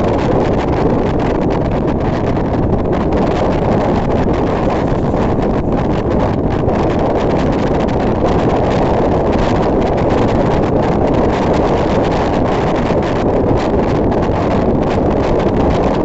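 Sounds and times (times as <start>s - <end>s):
moving train rumbling: 0.0s - 16.0s
wind buffeting microphone: 0.0s - 16.0s.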